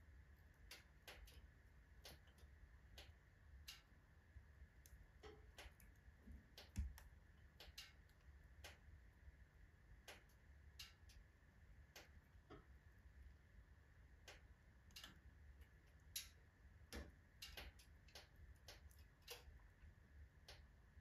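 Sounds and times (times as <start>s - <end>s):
logs crackling in a wood stove: 0.0s - 21.0s.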